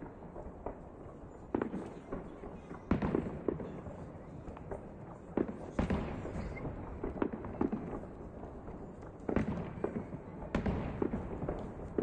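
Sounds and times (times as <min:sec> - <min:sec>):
firework bangs and crackles: 0:00.0 - 0:12.0.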